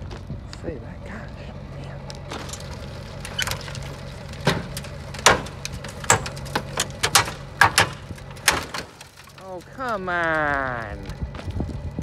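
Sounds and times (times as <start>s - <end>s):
car engine running hard: 0.0s - 12.0s
sharp engine bangs and cracks: 2.0s - 12.0s.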